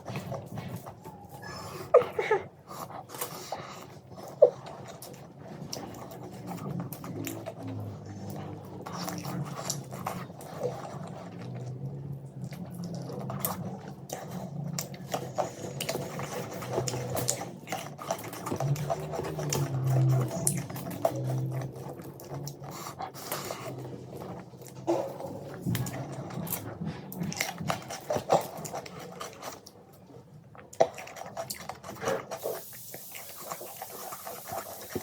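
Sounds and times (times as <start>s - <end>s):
close chewing with mouth clicks: 0.0s - 35.0s.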